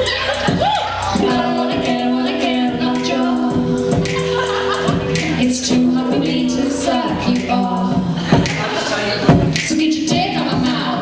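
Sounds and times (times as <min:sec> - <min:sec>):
women singing in harmony: 0:00.0 - 0:11.0.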